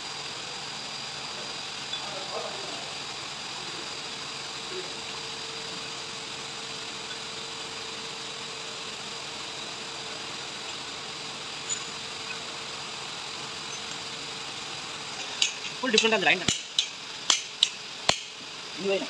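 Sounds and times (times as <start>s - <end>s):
machine hum with high whine: 0.0s - 19.0s.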